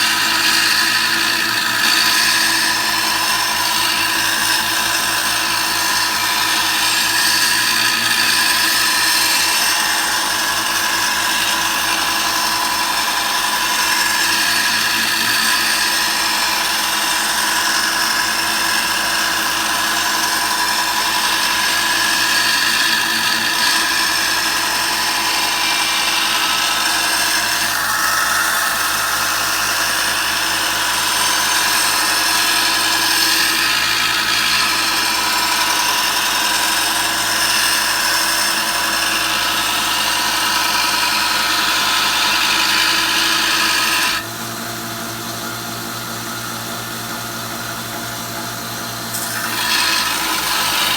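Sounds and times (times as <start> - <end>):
steel blade grinding on belt: 0.0 - 44.3, 49.1 - 50.9
belt sander running: 0.0 - 50.9.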